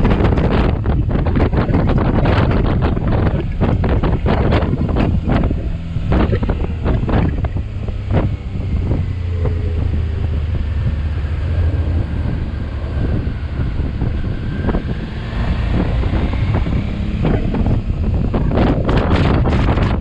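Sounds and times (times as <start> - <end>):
motorcycle engine droning: 0.0 - 20.0
wind buffeting microphone: 0.0 - 20.0.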